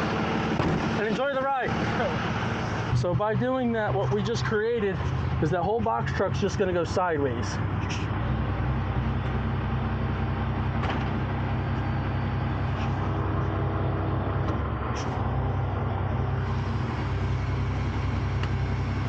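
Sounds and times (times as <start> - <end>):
diesel truck engines running: 0.0 - 19.0.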